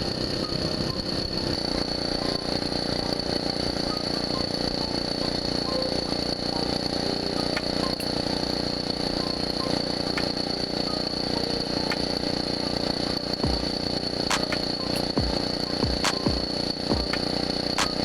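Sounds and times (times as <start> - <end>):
small bicycle engine running: 0.0 - 18.0.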